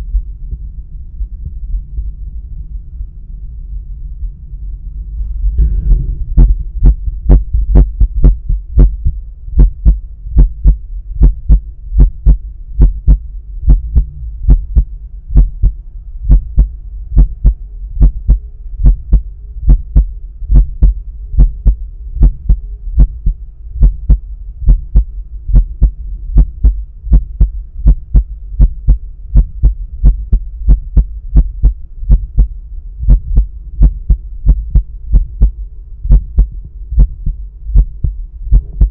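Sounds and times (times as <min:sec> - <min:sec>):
heartbeat through stethoscope: 0:00.0 - 0:02.3, 0:05.2 - 0:38.9
low hum: 0:00.0 - 0:38.9.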